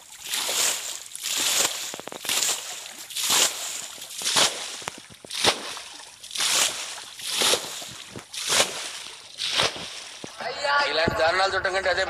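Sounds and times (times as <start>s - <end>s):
water splashing from basin: 0.0s - 10.4s.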